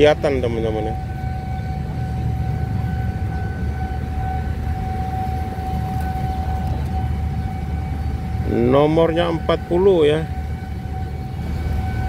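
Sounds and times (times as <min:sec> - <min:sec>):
constant high-pitched whine: 0:00.0 - 0:12.0
low rumble of street noise: 0:00.0 - 0:12.0.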